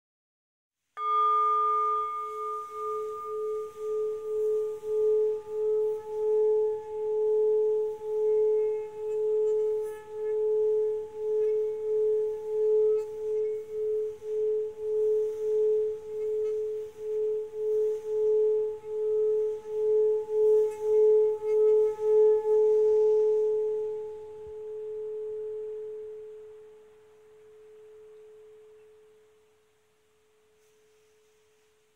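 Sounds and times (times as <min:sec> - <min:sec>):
singing bowl ringing: 0:01.0 - 0:29.8.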